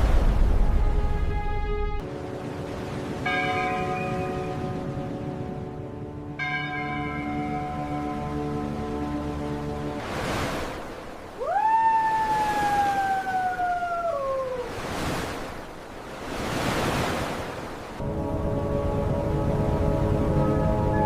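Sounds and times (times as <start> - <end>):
ocean waves: 0.0 - 21.0.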